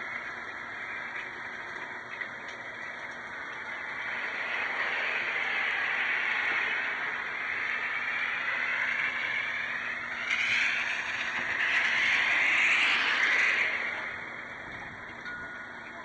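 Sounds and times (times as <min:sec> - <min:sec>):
car tyres hissing on wet road: 0:00.0 - 0:15.1
steady rain falling: 0:00.0 - 0:16.0.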